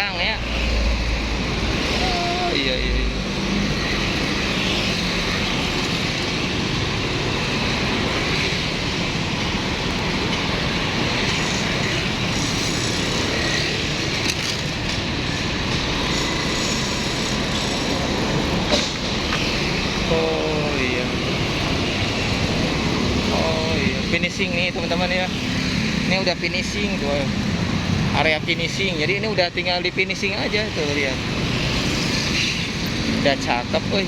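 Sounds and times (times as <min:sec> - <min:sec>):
engines: 0:00.0 - 0:34.0
passing traffic: 0:00.0 - 0:34.0
road-work machinery: 0:00.0 - 0:34.0.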